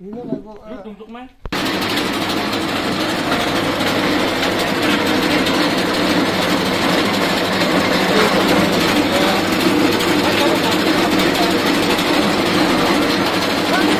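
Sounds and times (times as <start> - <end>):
dehusking machine rattling: 1.5 - 13.9.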